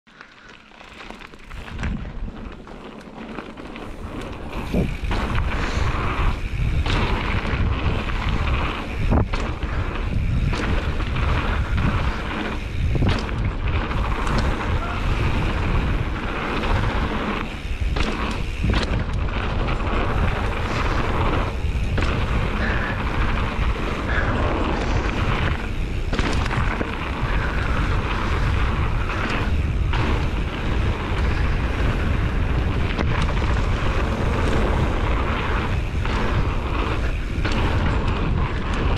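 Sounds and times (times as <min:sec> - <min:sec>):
tyres rolling on dirt: 0:00.1 - 0:38.9
bike knocks and rattles: 0:00.7 - 0:38.9
wind buffeting microphone: 0:03.6 - 0:38.9.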